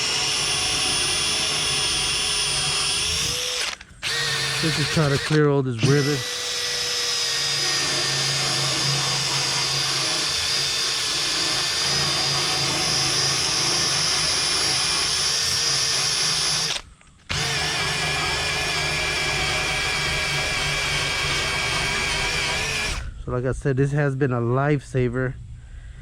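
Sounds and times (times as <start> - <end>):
drill brush scrubbing metal hull: 0.0 - 23.1.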